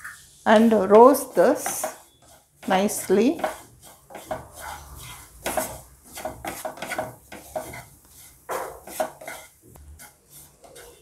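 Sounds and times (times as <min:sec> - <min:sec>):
wooden spatula scraping a pan: 0:00.1 - 0:11.0.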